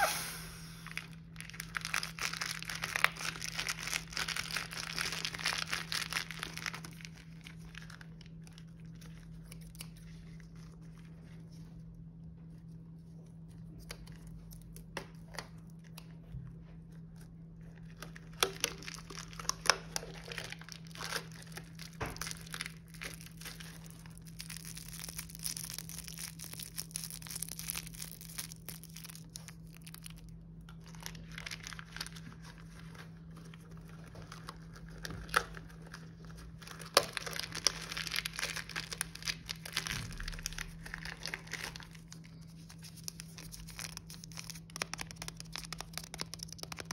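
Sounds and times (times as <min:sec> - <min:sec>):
candy wrappers crinkling: 0:00.0 - 0:11.5, 0:16.9 - 0:46.9.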